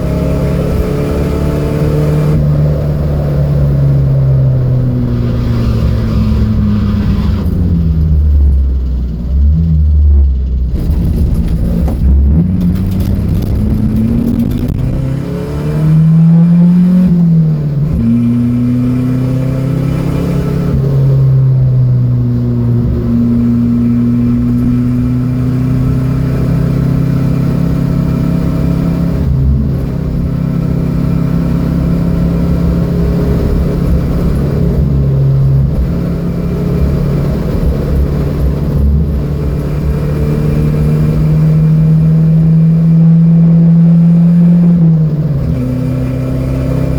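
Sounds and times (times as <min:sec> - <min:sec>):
car engine revving: 0:00.0 - 0:46.9
low road rumble: 0:00.0 - 0:46.9.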